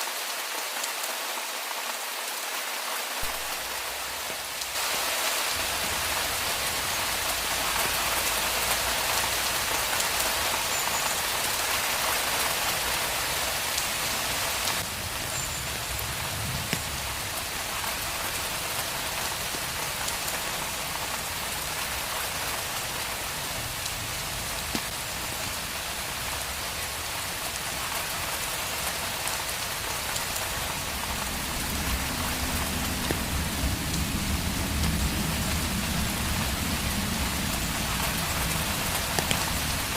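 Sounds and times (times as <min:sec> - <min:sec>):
rain falling on a street: 0:00.0 - 0:39.9.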